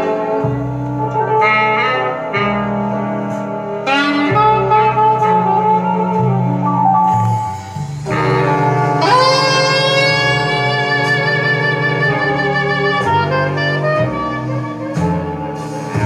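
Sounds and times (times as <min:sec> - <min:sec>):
saxophone jazz over loudspeakers: 0:00.0 - 0:16.0.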